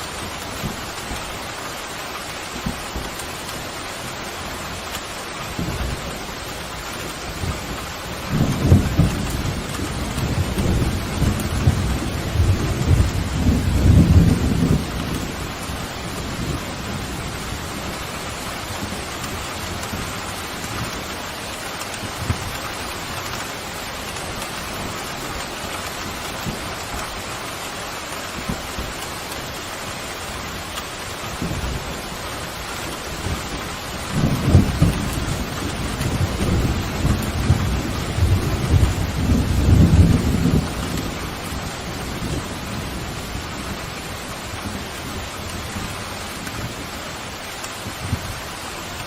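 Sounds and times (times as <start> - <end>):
steady rain: 0.0 - 49.0
thunder rumbling: 4.6 - 27.5, 28.2 - 49.0.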